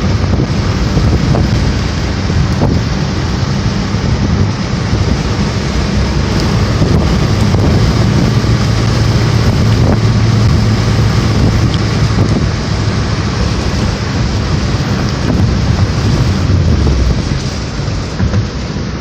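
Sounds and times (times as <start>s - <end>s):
hurricane wind buffeting microphone: 0.0s - 19.0s.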